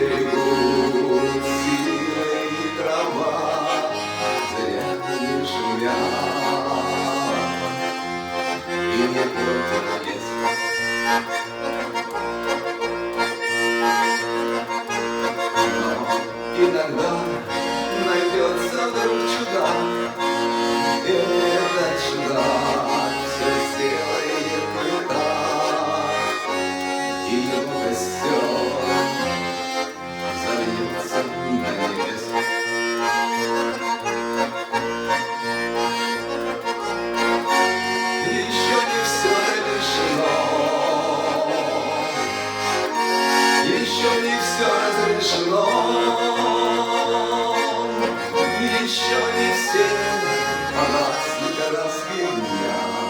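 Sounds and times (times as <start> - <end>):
accordion playing chords: 0.0 - 53.0.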